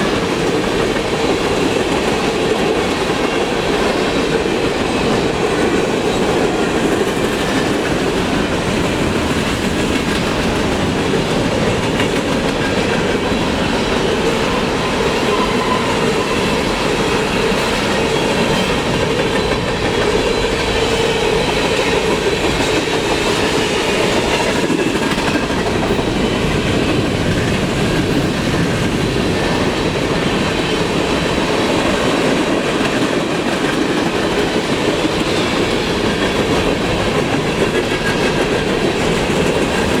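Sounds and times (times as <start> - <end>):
freight train rumble: 0.0 - 40.0
train wheels clacking on rails: 0.0 - 40.0.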